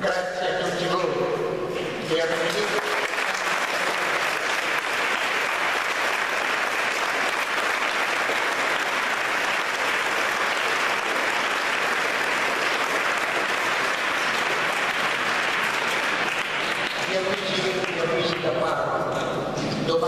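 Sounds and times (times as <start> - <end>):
congregation applauding: 1.8 - 18.8.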